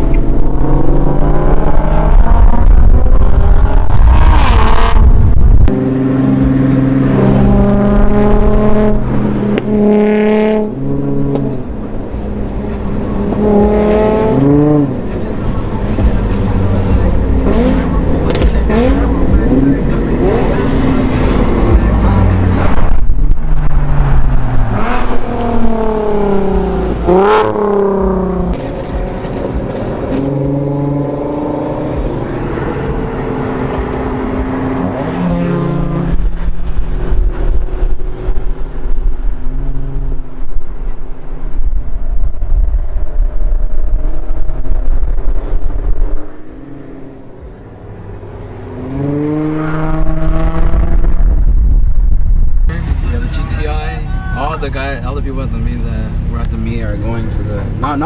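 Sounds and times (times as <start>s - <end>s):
heavy low rumble: 0.0s - 57.9s
car engines revving: 0.0s - 58.0s.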